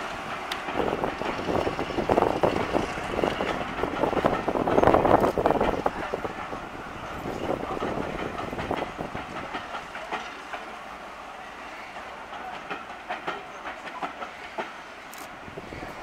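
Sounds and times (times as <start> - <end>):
train rumble: 0.0 - 16.0
train wheels clicking over rail joints: 0.0 - 16.0.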